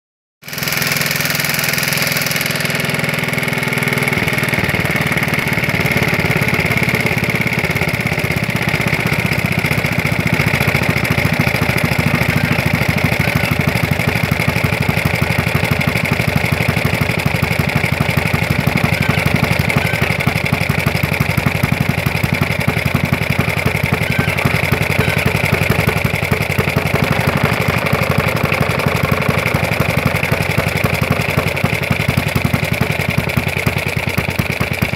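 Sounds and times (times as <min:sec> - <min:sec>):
single-cylinder engine running: 0:00.4 - 0:34.9.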